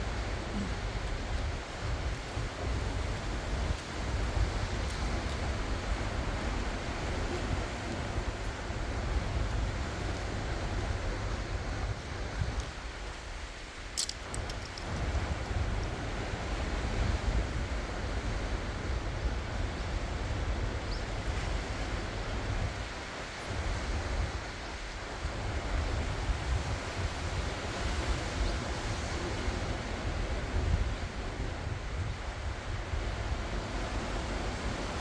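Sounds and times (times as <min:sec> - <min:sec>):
ocean waves on shore: 0:00.0 - 0:31.7
wind buffeting microphone: 0:00.0 - 0:35.0.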